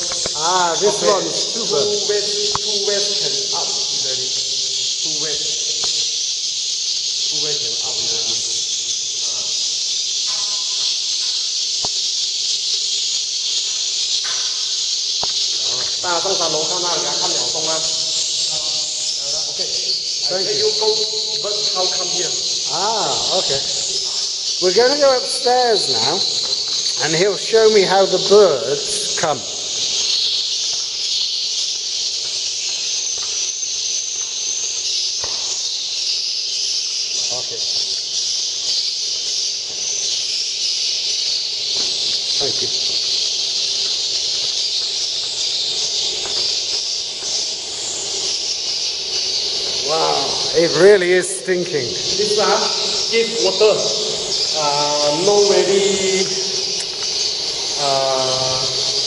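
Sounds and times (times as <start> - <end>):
recorded bird call on speakers: 0.0 - 59.0
swiftlets twittering: 0.0 - 59.0.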